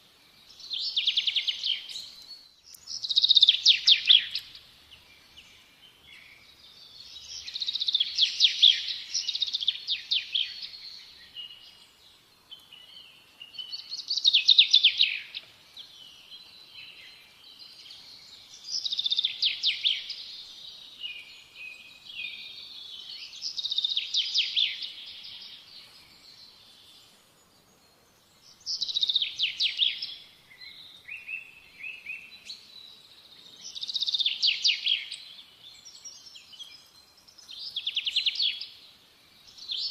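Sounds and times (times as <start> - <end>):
songbird chirping: 0.0 - 39.9
bird twittering softly: 0.4 - 39.9.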